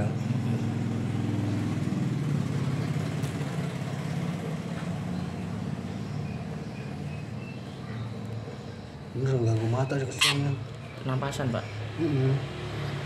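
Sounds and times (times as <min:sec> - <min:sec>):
engine idling: 0:00.0 - 0:12.1.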